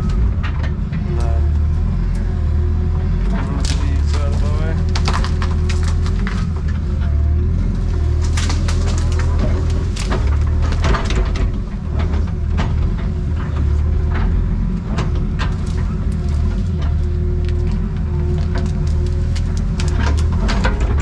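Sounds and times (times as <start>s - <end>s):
excavator diesel engine running: 0.0s - 21.0s
wood cracking and snapping: 0.0s - 21.0s.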